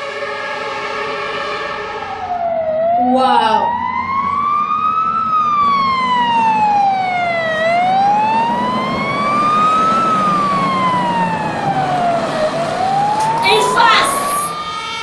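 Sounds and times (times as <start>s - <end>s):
fire truck siren wailing: 0.0s - 15.0s.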